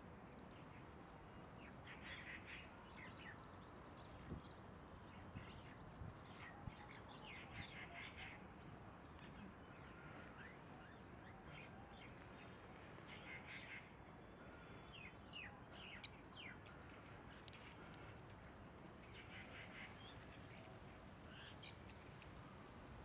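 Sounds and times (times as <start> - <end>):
quiet hiss: 0.0 - 23.0.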